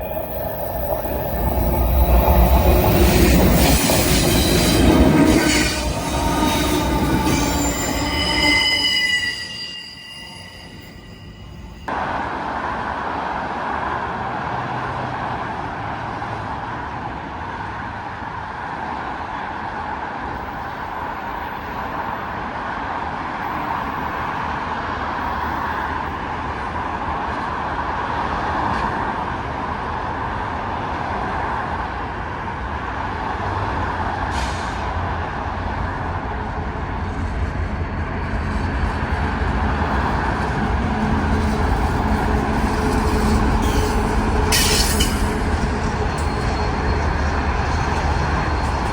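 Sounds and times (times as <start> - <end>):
train wheels on rail: 0.0 - 14.4, 20.3 - 48.9
deep train rumble: 0.0 - 16.2, 20.4 - 48.9.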